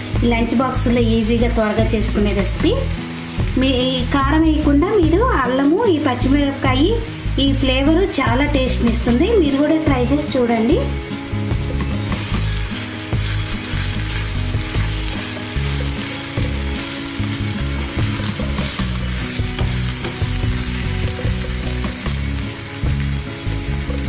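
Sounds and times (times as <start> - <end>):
vegetables sizzling in oil: 0.0 - 24.0
spatula turning food in pan: 1.0 - 24.0.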